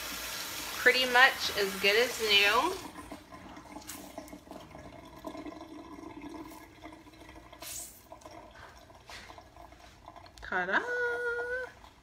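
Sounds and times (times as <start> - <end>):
faint water running in sink: 0.0 - 12.0.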